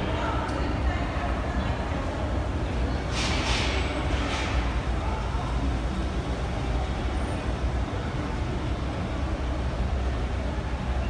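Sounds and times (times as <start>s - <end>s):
escalator hum and rumble: 0.0s - 11.0s
subway station background noise: 0.0s - 11.0s.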